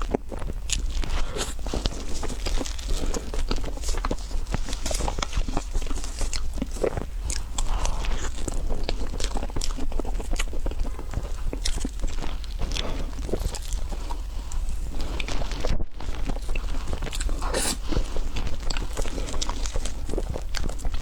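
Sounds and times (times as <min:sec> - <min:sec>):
chewing and biting: 0:00.0 - 0:21.0.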